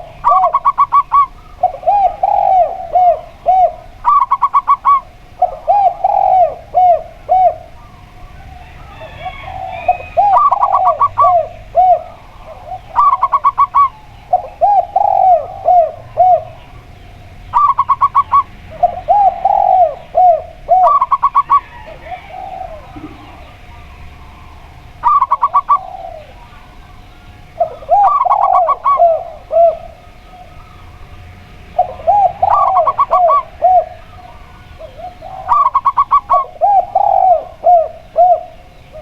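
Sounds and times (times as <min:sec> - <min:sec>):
dove low cooing: 0:00.0 - 0:39.0.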